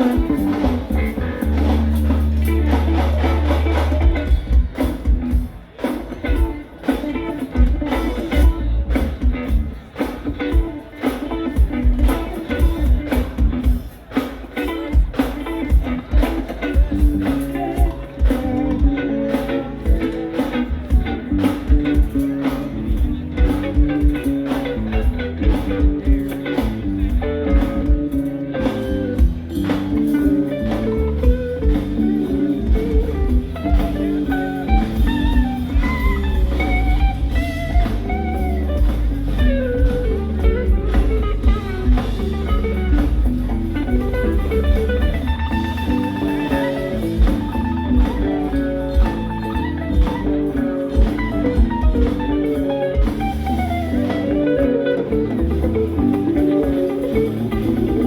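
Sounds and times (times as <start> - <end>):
electric guitar lines: 0.0 - 58.0
rock band playing live: 0.0 - 58.0.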